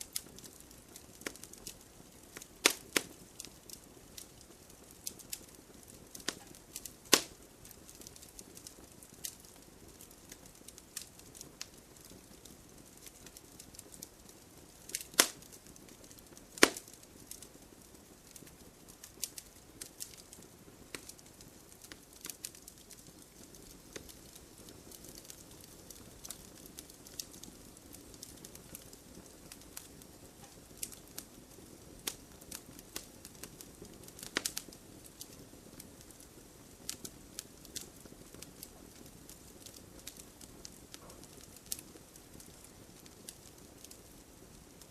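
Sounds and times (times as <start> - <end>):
wood campfire crackling: 0.0 - 44.9.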